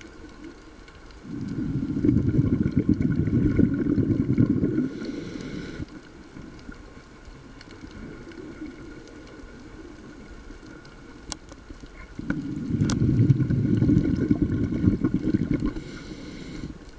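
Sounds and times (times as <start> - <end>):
underwater bubbling rumble: 0.0 - 16.9.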